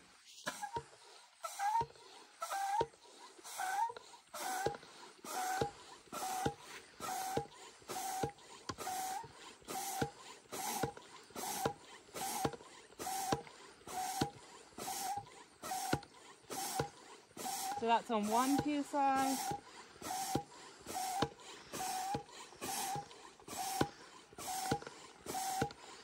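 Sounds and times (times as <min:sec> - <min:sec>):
hand air pump strokes: 0:00.1 - 0:26.0.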